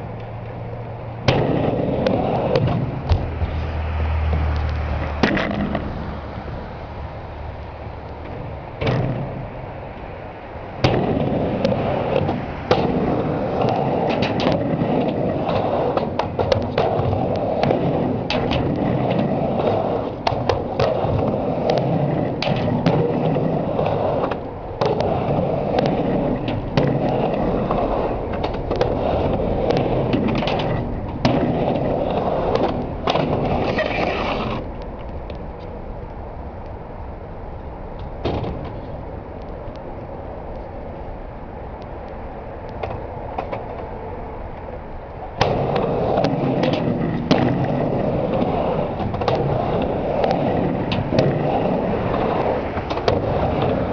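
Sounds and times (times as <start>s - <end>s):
skateboard clacking on ramp: 0.0s - 6.4s, 7.6s - 36.7s, 42.1s - 44.7s, 45.3s - 53.9s
skateboard wheels rolling: 0.0s - 53.9s.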